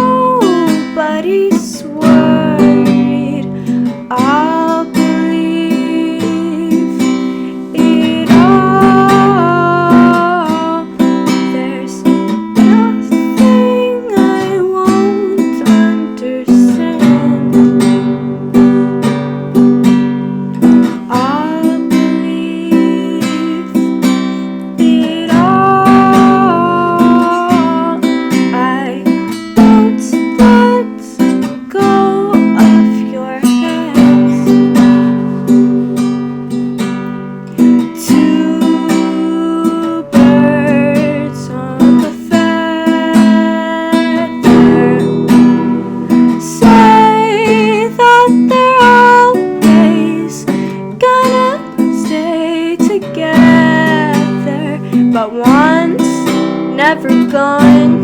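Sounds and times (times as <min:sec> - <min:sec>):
person singing: 0:00.0 - 0:19.0, 0:20.6 - 0:36.7, 0:37.6 - 0:58.0
acoustic guitar strumming: 0:00.0 - 0:58.0.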